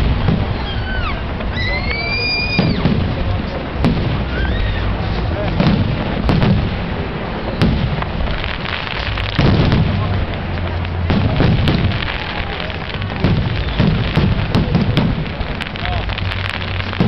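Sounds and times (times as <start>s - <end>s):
crackle of bursting shells: 0.0s - 17.0s
fireworks bangs: 0.0s - 17.0s.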